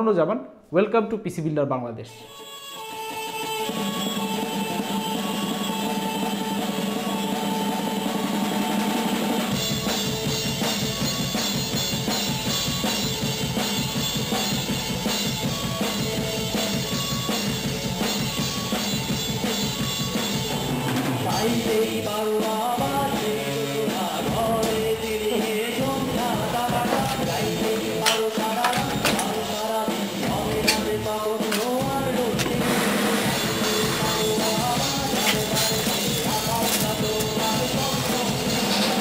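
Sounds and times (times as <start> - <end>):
rock music: 2.2 - 39.0
drums and bass: 3.5 - 39.0.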